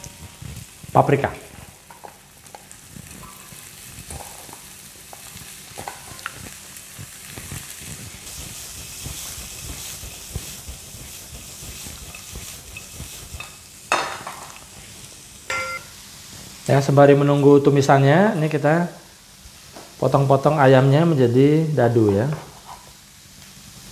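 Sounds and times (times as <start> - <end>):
peppers and sausage sizzling: 0.0 - 23.9.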